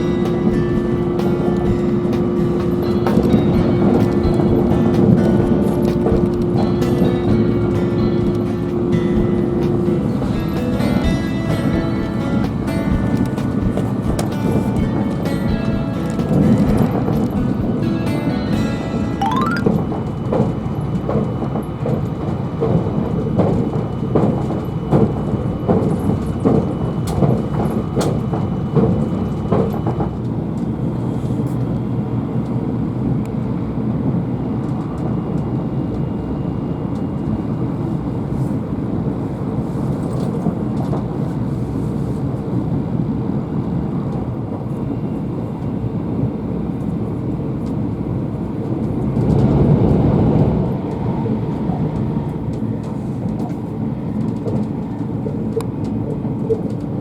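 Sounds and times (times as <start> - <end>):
train rumbling on rails: 0.0 - 19.2, 19.8 - 57.0.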